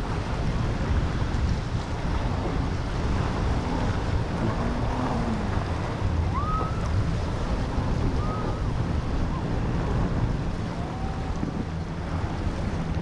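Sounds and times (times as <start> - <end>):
passing boat engines: 0.0 - 13.0
surf rushing: 0.0 - 13.0
wind buffeting microphone: 0.0 - 13.0.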